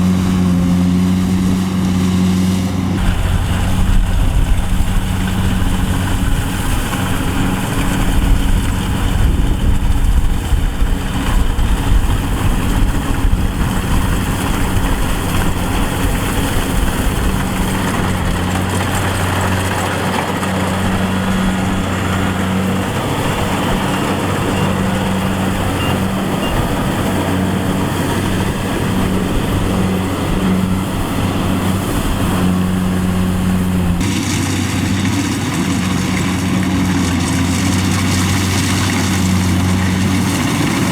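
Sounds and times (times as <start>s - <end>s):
harvesting machine engine running: 0.0s - 40.9s.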